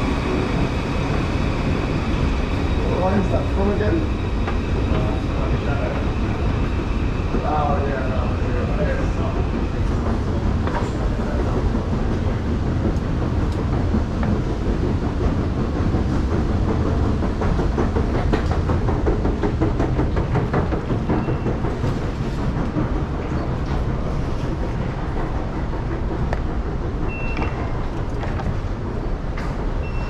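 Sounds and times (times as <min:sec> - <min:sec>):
escalator rumbling: 0:00.0 - 0:30.0
escalator steps clattering: 0:00.0 - 0:30.0.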